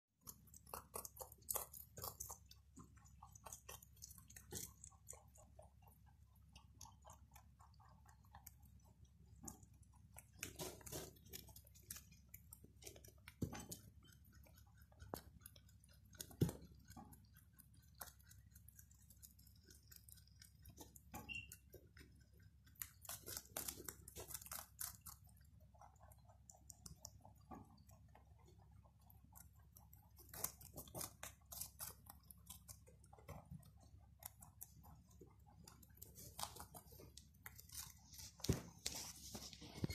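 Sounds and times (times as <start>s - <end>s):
rabbits crunching vegetables: 0.1s - 39.9s.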